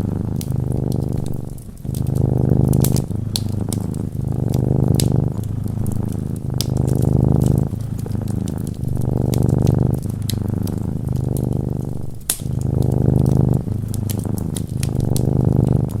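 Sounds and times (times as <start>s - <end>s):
cat purring: 0.0s - 16.0s
fire crackling with sharp snaps: 0.0s - 16.0s.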